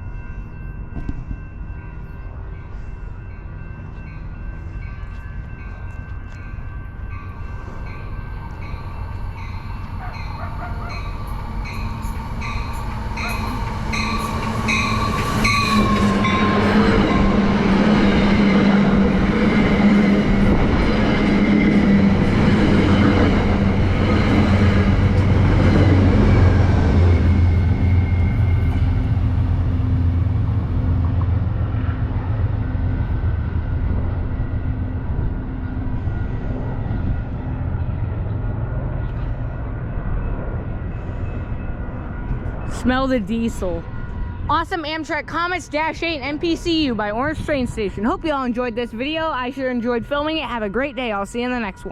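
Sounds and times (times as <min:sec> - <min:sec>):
diesel locomotive engine drone: 0:00.0 - 0:51.9
train wheel and rail noise: 0:00.0 - 0:51.9.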